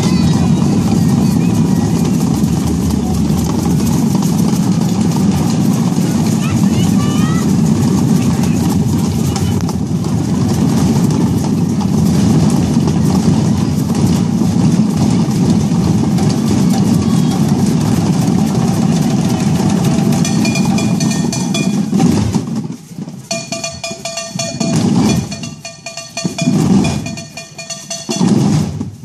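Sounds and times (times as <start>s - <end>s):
children drumming on buckets: 0.0s - 29.0s.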